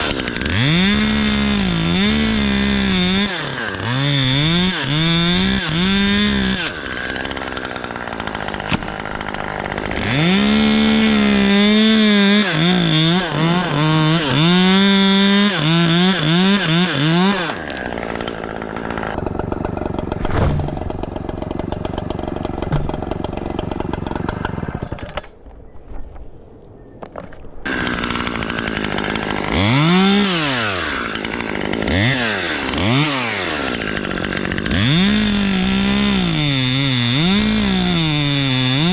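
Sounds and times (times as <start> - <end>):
chainsaw engine revving and idling: 0.0 - 24.9, 27.7 - 38.9.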